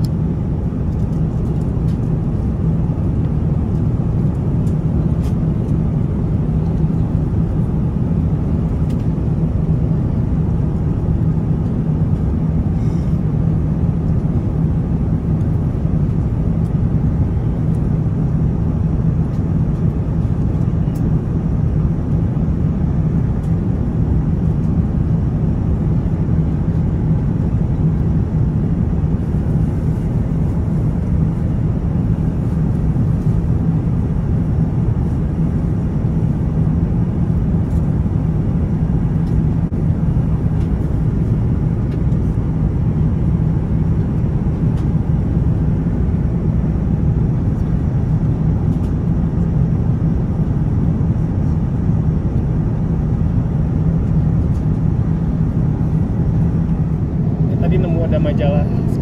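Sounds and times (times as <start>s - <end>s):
airplane cabin engine hum: 0.0s - 59.0s.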